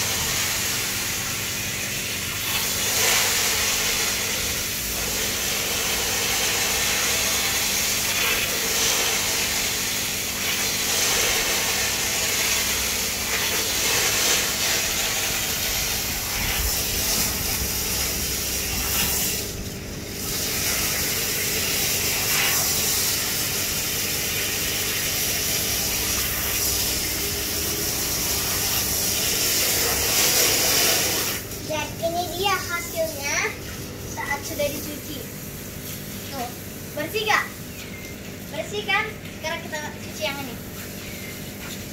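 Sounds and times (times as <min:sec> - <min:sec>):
running water hissing: 0:00.0 - 0:41.9.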